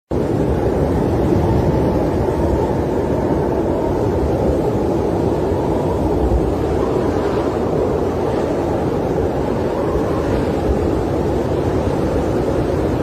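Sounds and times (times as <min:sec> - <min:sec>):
snowstorm wind roaring: 0:00.1 - 0:13.0.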